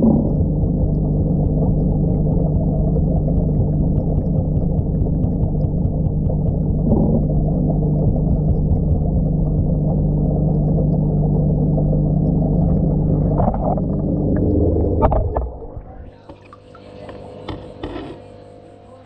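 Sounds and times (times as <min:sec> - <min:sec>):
faint bubble ticks: 0:00.0 - 0:17.6
muffled air pump hum: 0:00.0 - 0:19.0.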